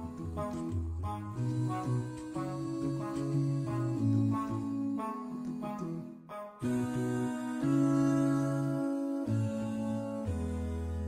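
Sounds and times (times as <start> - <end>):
instrumental music held chords: 0.0 - 11.0.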